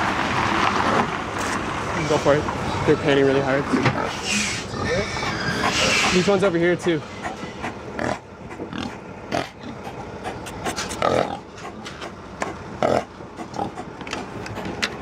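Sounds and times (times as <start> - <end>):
pigs grunting: 2.0 - 15.0
pigs panting: 2.7 - 15.0.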